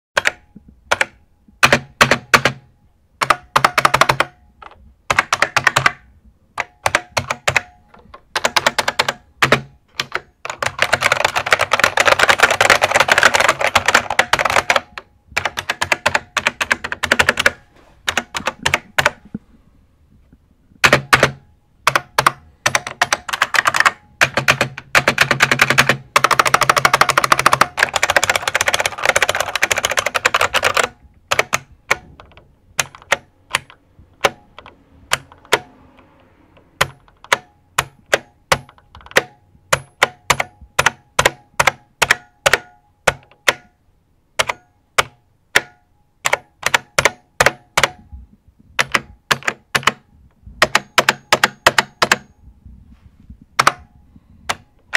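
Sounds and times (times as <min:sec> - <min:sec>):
mechanical keyboard keys clacking: 0:00.2 - 0:19.2, 0:20.8 - 0:43.8, 0:44.4 - 0:48.0, 0:48.8 - 0:52.3, 0:53.6 - 0:53.9.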